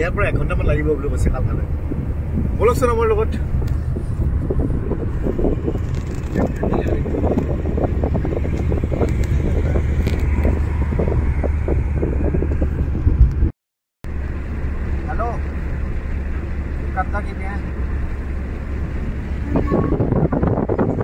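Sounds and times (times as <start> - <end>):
car road noise rumble: 0.0 - 21.0.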